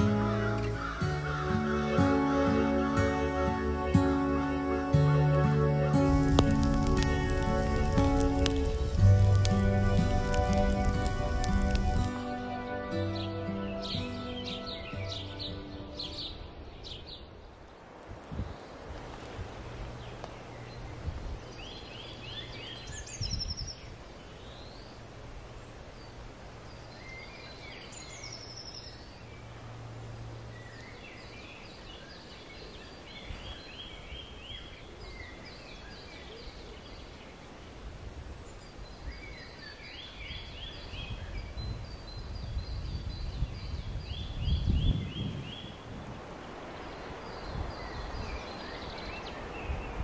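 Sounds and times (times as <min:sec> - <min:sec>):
small songbirds chirping: 0:00.0 - 0:18.9, 0:19.8 - 0:50.0.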